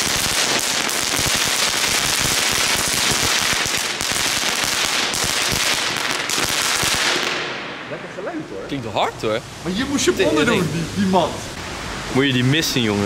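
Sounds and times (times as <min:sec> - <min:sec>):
fireworks crackling: 0:00.0 - 0:11.8.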